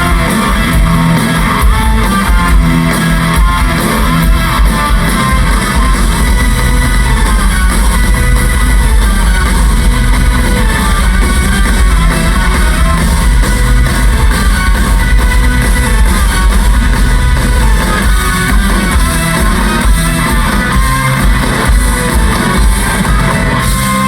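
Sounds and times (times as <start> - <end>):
electric guitar: 0.0 - 24.0
live rock band: 0.0 - 24.0.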